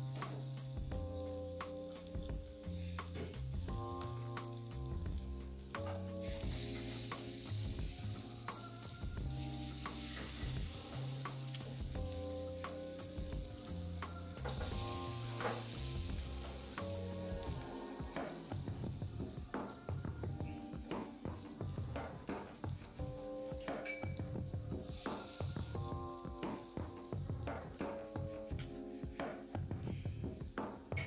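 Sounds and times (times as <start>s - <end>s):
background music with bass line: 0.0s - 31.0s
chicken sizzling on a grill: 0.0s - 31.0s.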